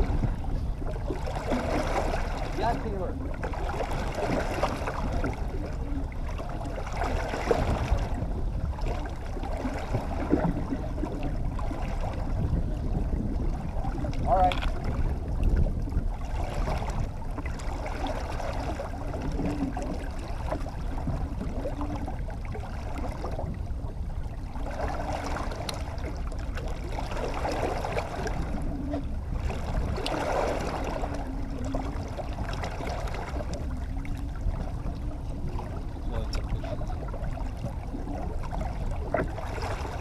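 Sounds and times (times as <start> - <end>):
boat motor rumble: 0.0 - 40.0
water sloshing against hull: 0.0 - 40.0.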